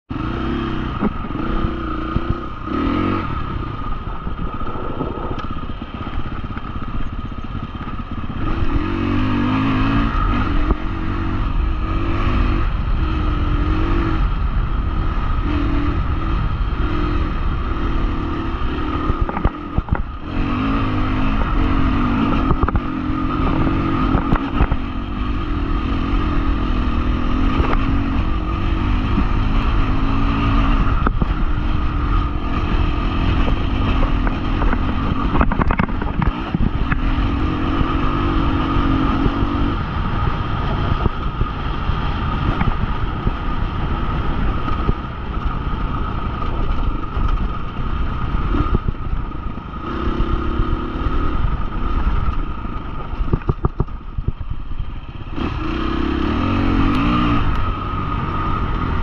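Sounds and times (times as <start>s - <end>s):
motorcycle engine revving: 0.1s - 59.0s.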